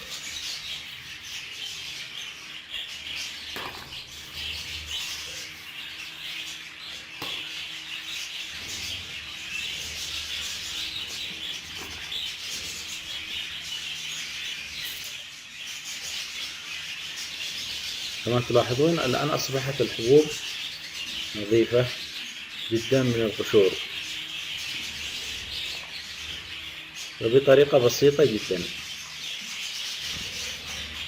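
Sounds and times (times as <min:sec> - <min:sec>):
budgerigars chattering and chirping: 0:00.0 - 0:31.0.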